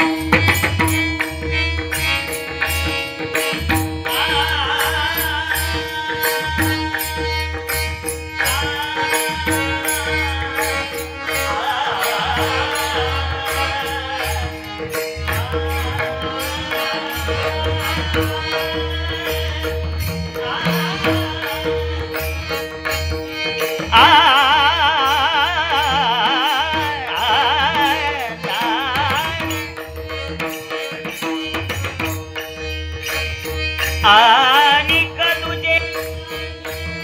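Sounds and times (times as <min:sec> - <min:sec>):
man singing devotional song: 0:00.0 - 0:37.0.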